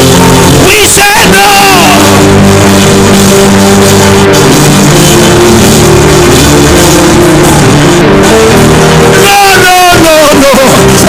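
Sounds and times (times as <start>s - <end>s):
held keyboard chords: 0.0s - 11.0s
live band playing: 0.0s - 11.0s.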